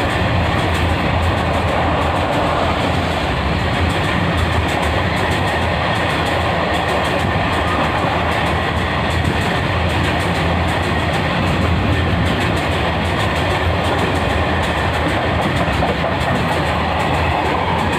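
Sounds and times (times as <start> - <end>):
freight train wagons rumbling: 0.0 - 17.9
wheel clatter over rail joints: 0.0 - 17.9.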